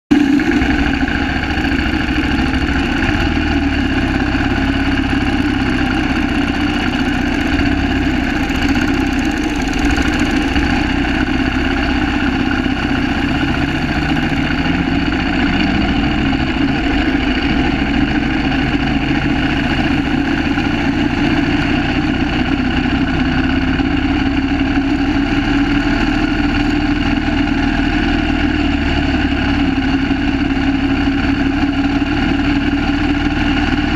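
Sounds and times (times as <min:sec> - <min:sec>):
motorcycle engine running at low revs: 0:00.1 - 0:33.9
other motorcycle engines running: 0:00.1 - 0:33.9.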